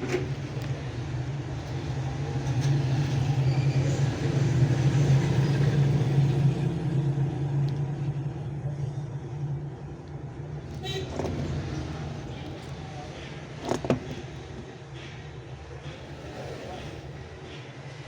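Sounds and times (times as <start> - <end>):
street traffic passing: 0.0 - 18.0
vehicle engine humming: 0.0 - 18.0.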